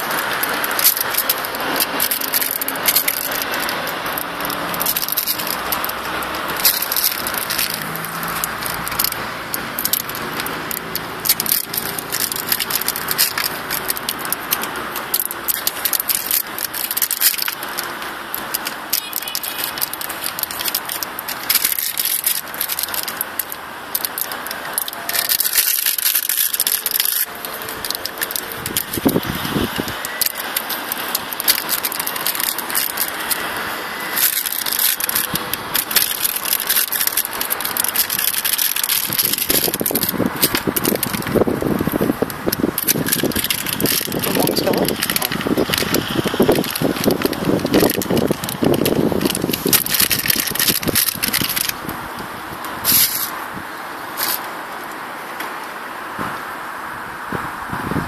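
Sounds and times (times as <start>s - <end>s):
plastic packaging crinkling: 0.0s - 53.6s.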